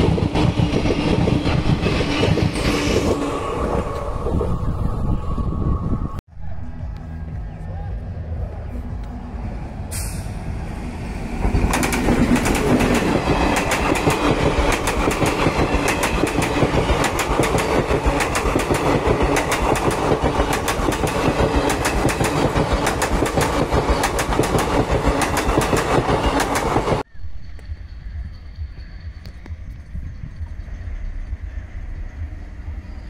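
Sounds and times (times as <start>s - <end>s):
train passing close by: 0.0s - 6.8s, 7.7s - 33.0s.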